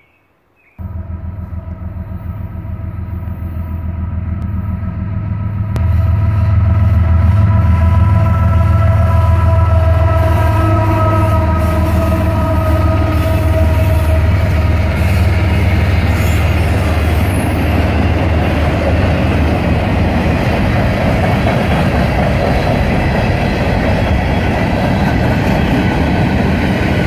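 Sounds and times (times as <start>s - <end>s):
diesel locomotive horn: 0.8s - 26.4s
rumble of diesel engines and wheels: 0.8s - 27.0s.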